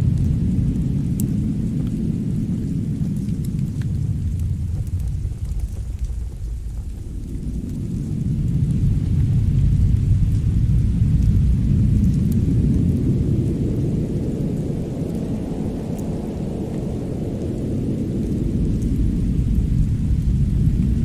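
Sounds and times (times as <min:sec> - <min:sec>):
faint fireplace crackles: 0:00.0 - 0:21.0
wind rumbling: 0:00.0 - 0:21.0.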